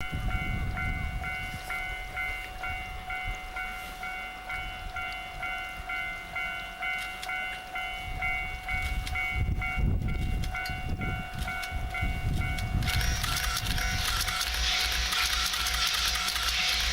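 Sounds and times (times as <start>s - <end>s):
level-crossing warning bell ringing: 0.0s - 16.9s.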